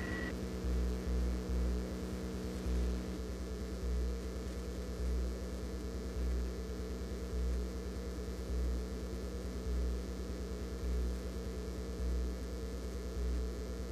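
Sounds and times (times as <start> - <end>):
steady low hum with deep swell: 0.0 - 13.9.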